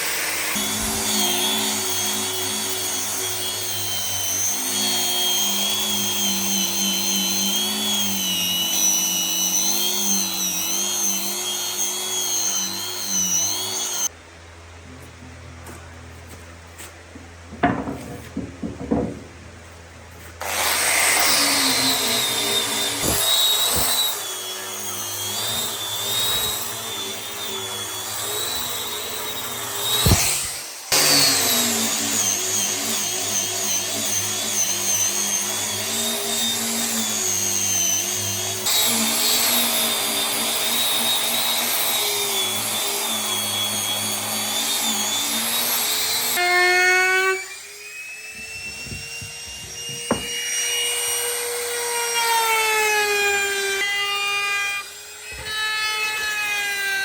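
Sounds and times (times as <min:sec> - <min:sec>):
electric power tool running: 0:00.0 - 0:14.1, 0:20.4 - 0:57.0.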